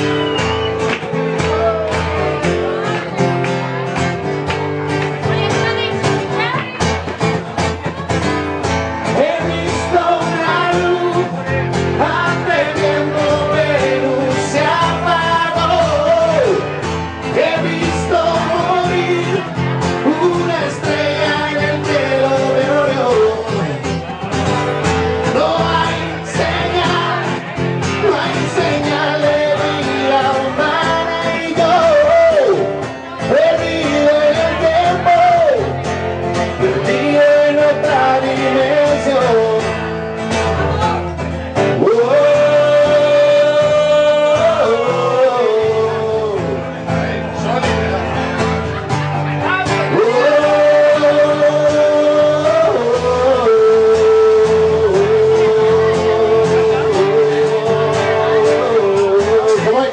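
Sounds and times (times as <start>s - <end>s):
strummed acoustic guitars: 0.0s - 59.9s
man singing: 9.0s - 59.9s.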